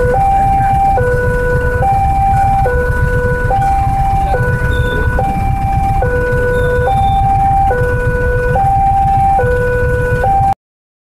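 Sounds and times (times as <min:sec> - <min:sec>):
motorcycle engines: 0:00.0 - 0:10.6
traffic rumble: 0:00.0 - 0:10.6
two-tone crossing alarm chime: 0:00.0 - 0:10.6.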